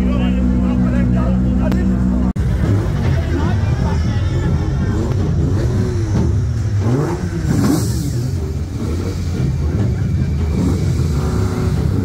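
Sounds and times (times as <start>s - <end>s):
car engine idling with throttle blips: 0.0s - 12.0s.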